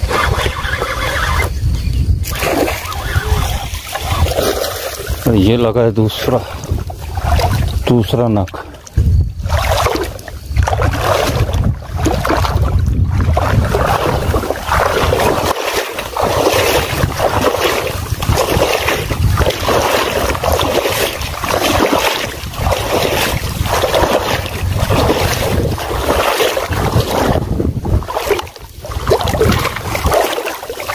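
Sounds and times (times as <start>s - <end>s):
wind buffeting microphone: 0.0s - 30.9s
fish splashing in water: 2.2s - 5.4s, 6.1s - 30.9s.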